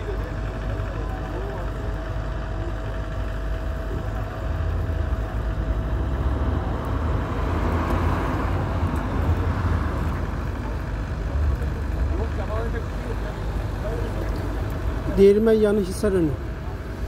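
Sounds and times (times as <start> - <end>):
forest fire roaring: 0.0 - 17.0.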